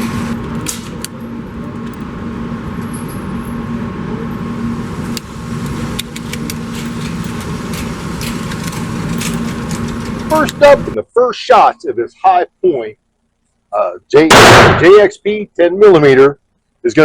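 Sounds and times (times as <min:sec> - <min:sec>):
ventilation droning hum: 0:00.0 - 0:17.0.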